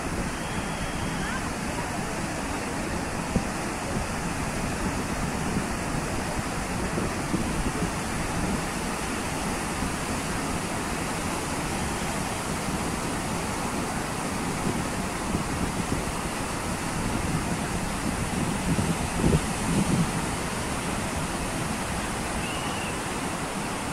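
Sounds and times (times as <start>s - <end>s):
surf breaking on shore: 0.0s - 23.9s
wind buffeting microphone: 0.0s - 23.9s.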